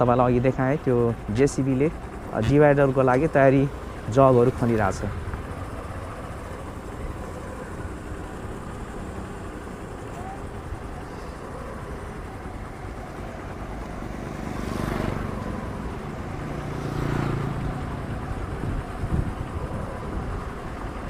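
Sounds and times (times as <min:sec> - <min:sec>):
engine drone: 0:00.0 - 0:21.0
low traffic rumble: 0:00.0 - 0:21.0
vehicles passing close by: 0:00.0 - 0:21.0.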